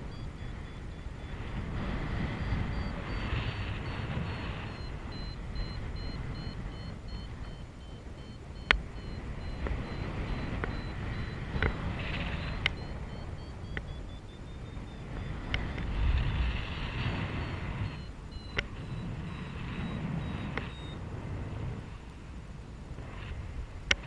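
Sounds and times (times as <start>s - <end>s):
variometer beeping: 0.0s - 23.0s
wind over microphone: 0.0s - 24.0s.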